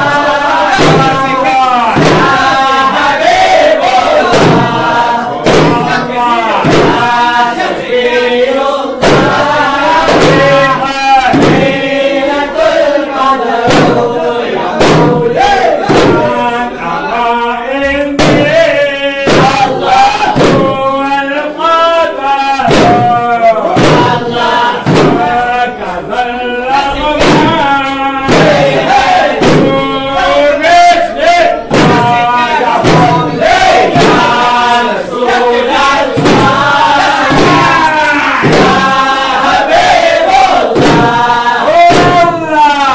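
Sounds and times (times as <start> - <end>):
heavy thumps: 0.0 - 8.2, 8.9 - 16.5, 18.2 - 21.0, 22.5 - 25.6, 26.8 - 42.9
frame drums beating: 0.0 - 16.6, 18.1 - 21.2, 22.4 - 25.7, 26.7 - 42.9
men chanting in unison: 0.0 - 42.9.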